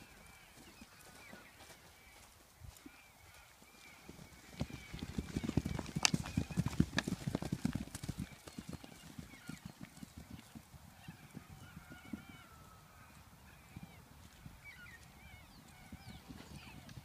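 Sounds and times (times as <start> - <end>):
hooves galloping on grass: 0.0 - 17.0.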